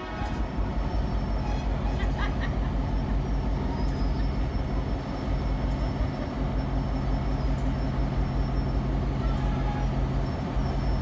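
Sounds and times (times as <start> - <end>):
diesel locomotive engine droning: 0.0 - 11.0.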